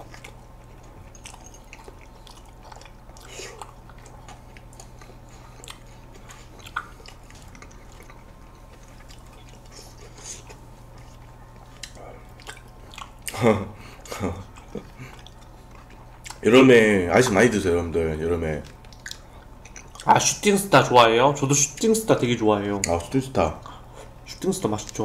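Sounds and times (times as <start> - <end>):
chewing sounds: 0.0 - 17.5, 18.5 - 20.6, 21.4 - 25.0
steady low hum: 0.0 - 25.0.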